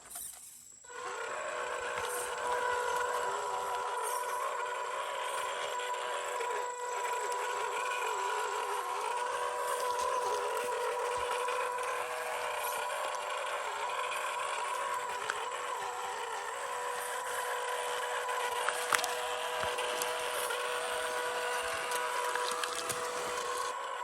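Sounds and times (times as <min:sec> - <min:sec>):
electric motor whining: 0:00.1 - 0:24.0.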